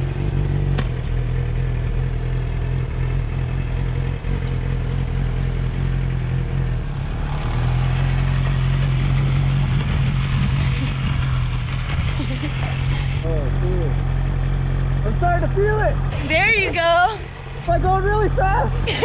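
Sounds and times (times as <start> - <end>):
motorcycle engine pulling away: 0.0 - 19.0.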